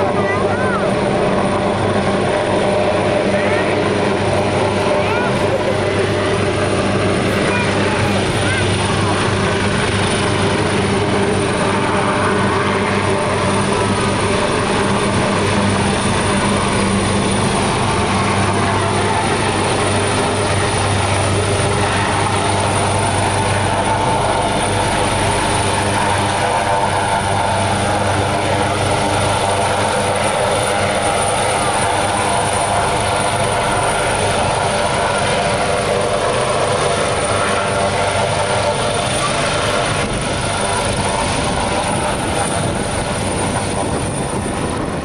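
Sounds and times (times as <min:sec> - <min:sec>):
helicopter rotor beating: 0:00.0 - 0:45.0
turbine engines droning: 0:00.0 - 0:45.0.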